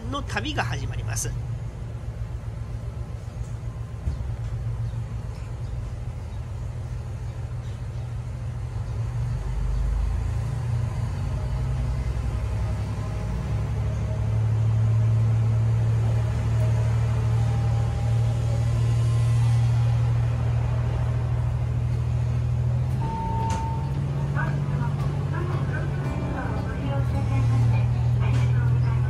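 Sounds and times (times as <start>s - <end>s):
diesel railcar engine drone: 0.0s - 29.0s.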